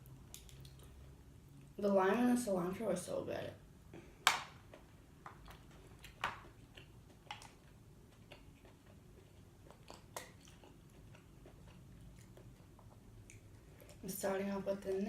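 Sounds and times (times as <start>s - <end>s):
soft chewing: 0.0s - 1.8s, 3.9s - 15.0s.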